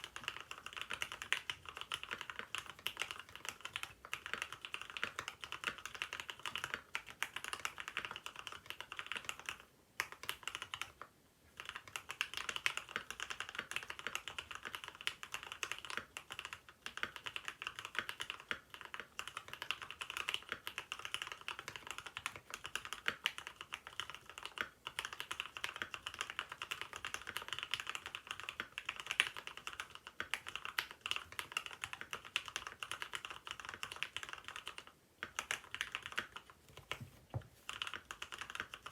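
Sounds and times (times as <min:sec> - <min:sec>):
mechanical keyboard typing: 0:00.0 - 0:11.0, 0:11.6 - 0:38.9.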